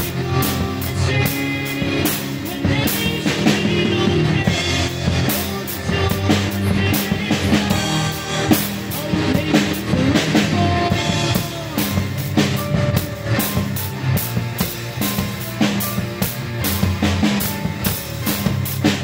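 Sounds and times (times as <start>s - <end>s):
drum kit beat: 0.0s - 19.0s
low bass line: 0.0s - 19.0s.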